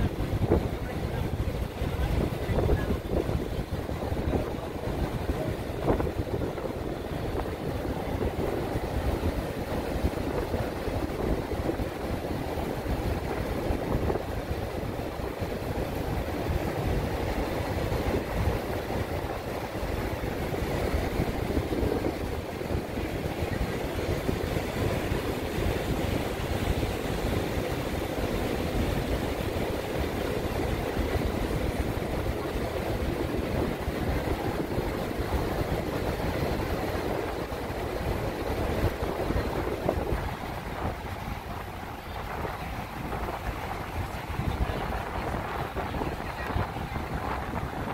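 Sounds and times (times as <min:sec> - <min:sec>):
rushing water: 0:00.0 - 0:47.9
wind buffeting microphone: 0:00.0 - 0:47.9.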